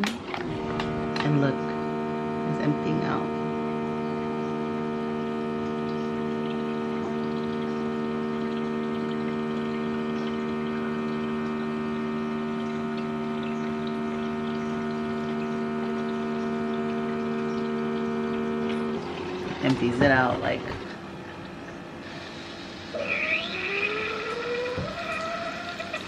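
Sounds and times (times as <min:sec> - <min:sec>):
coffee maker pump humming: 0:00.0 - 0:26.0
water trickling: 0:00.4 - 0:26.0.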